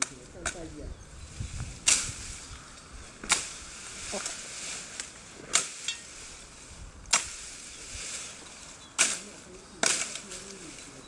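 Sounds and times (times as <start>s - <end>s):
leafy branches rustling: 0.0s - 11.0s.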